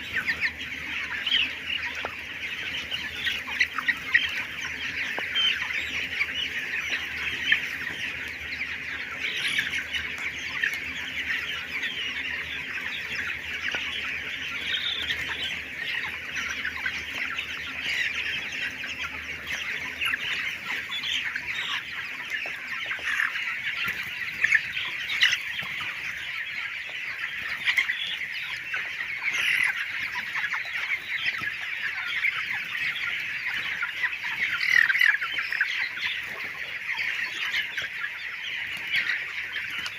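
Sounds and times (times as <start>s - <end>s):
chickens cheeping and clucking: 0.0s - 39.9s.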